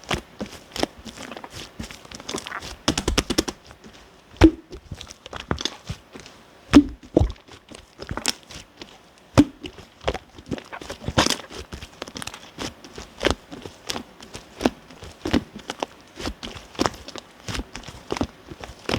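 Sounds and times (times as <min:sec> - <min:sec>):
hands squishing slime: 0:00.0 - 0:03.7, 0:06.8 - 0:18.9.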